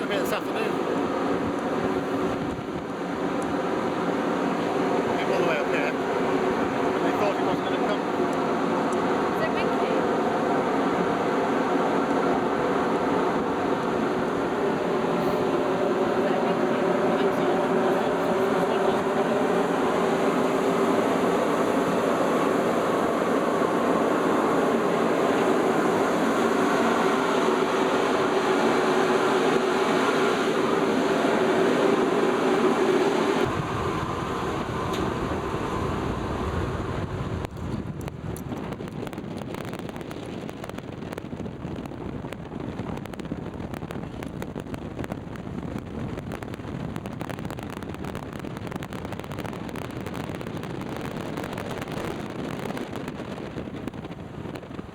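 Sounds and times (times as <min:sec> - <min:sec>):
ship machinery drone: 0:00.0 - 0:54.9
wind rumble on microphone: 0:00.0 - 0:54.9.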